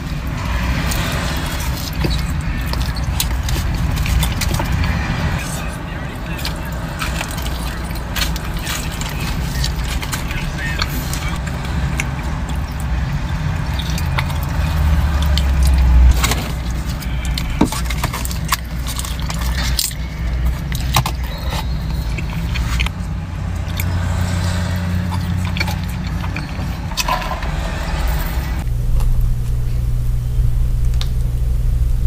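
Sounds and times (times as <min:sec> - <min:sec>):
chewing fried food: 0:00.0 - 0:28.0
low car rumble: 0:00.0 - 0:32.0.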